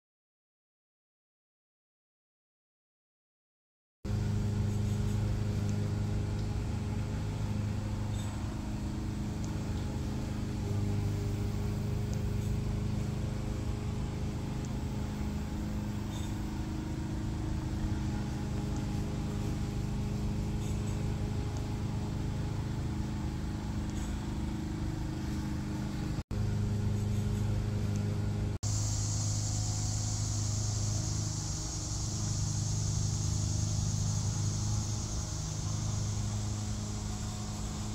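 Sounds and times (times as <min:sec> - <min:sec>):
high hiss: 0:04.1 - 0:25.4, 0:28.6 - 0:37.9
low mechanical hum: 0:04.1 - 0:37.9.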